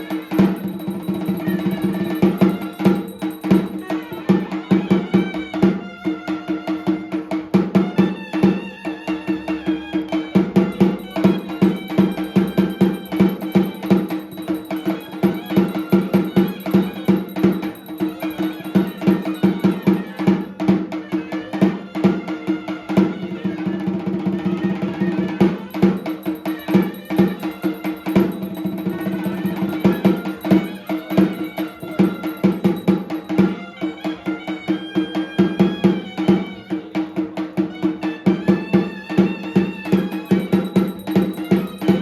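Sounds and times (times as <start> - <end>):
fast steady drumming: 0.0 - 42.0.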